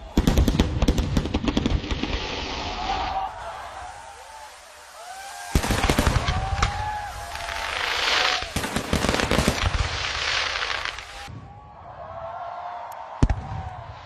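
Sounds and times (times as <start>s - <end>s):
crackling fireworks hiss: 0.0s - 11.4s
fireworks banging: 0.0s - 11.4s.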